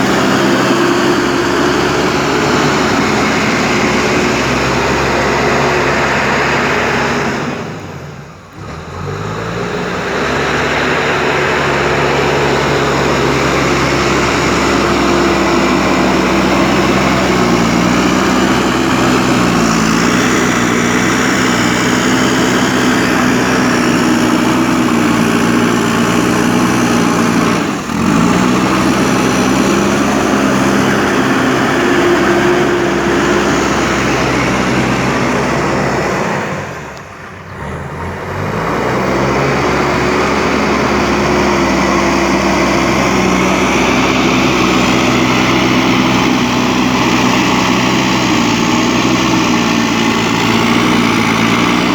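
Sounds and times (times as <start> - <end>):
diesel engine under varying load: 0.0 - 51.9.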